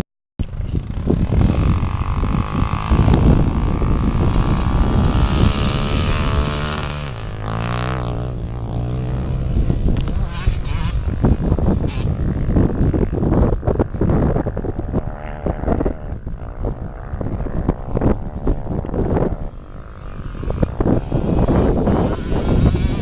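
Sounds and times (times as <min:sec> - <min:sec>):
engine passing by: 0:00.8 - 0:13.2, 0:14.8 - 0:23.0
racing engines at high revs: 0:01.1 - 0:13.5, 0:14.8 - 0:23.0.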